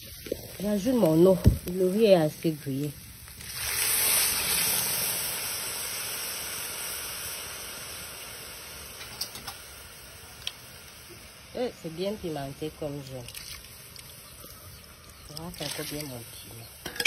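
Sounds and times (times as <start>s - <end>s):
water sizzling in hot oil: 0.0s - 17.0s.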